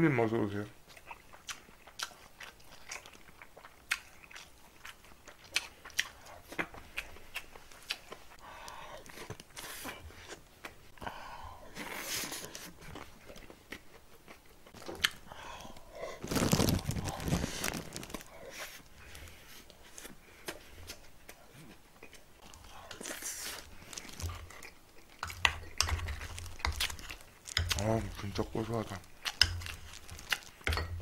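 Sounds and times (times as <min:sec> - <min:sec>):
person chewing food: 0:00.8 - 0:31.0.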